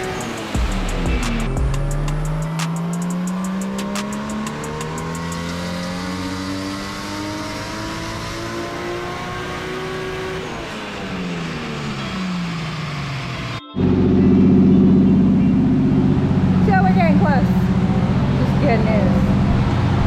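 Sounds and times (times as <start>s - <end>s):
car engine revving on dyno: 0.0s - 20.0s.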